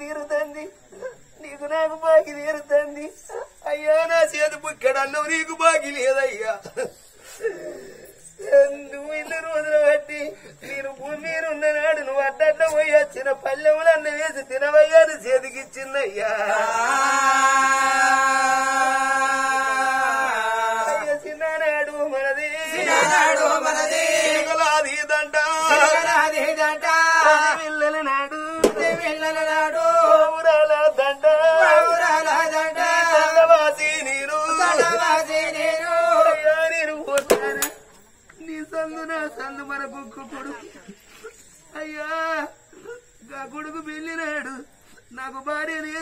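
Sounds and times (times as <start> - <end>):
man singing: 0.0 - 6.7, 8.4 - 40.8, 41.7 - 46.0.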